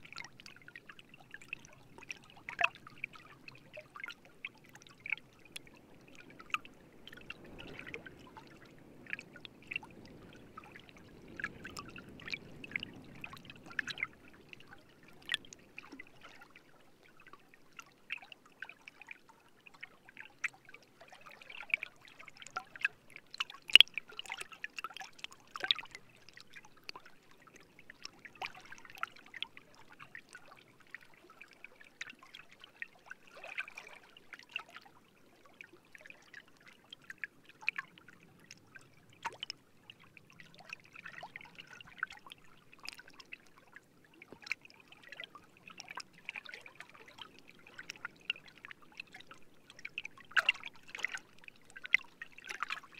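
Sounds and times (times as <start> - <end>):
small pops and drips: 0.0 - 34.9, 35.5 - 52.9
water trickling and bubbling: 0.0 - 52.9.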